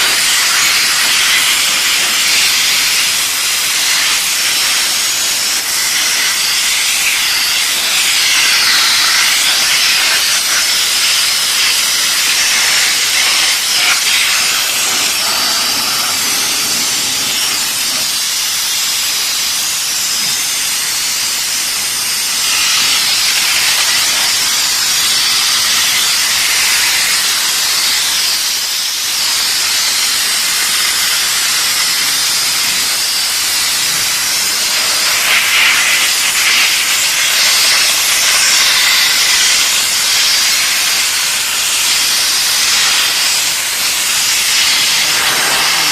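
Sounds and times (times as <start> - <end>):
steam jet hissing: 0.0 - 45.9.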